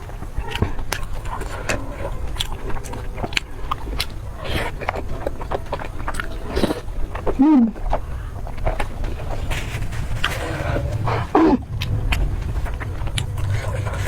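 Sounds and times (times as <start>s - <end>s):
crunchy chewing of food: 0.0s - 14.0s
steady low rumble: 0.0s - 14.0s.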